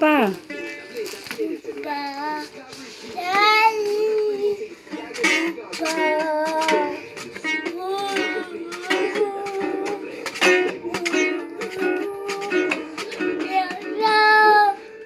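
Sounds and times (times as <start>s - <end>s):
toy guitar strumming: 0.1s - 15.0s
child singing: 1.6s - 15.0s.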